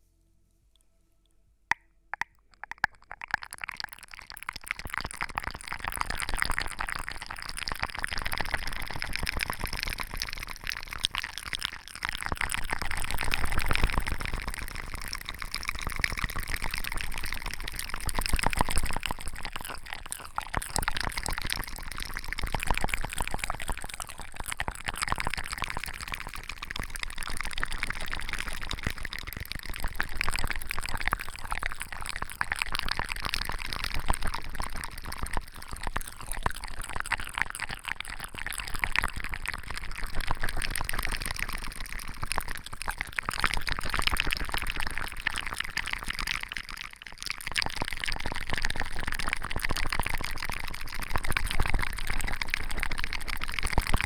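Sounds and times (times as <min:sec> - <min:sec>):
wet crackly liquid sounds: 0:01.7 - 0:54.0.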